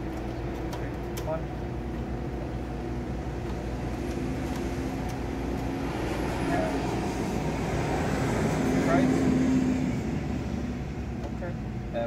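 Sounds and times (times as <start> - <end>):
vending machines humming: 0.0 - 12.0.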